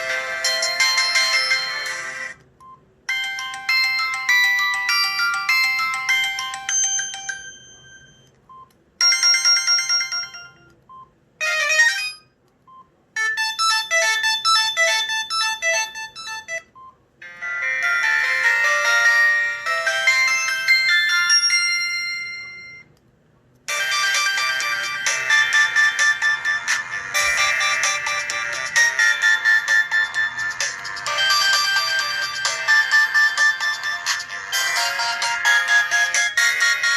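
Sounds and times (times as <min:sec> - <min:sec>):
phone ringtone melodies: 0:00.0 - 0:02.4, 0:03.1 - 0:08.3, 0:09.0 - 0:10.7, 0:11.4 - 0:12.3, 0:13.2 - 0:22.9, 0:23.7 - 0:36.9.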